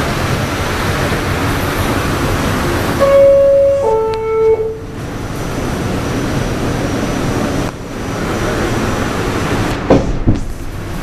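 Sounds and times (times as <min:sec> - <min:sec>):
train car rumbling on track: 0:00.0 - 0:11.0.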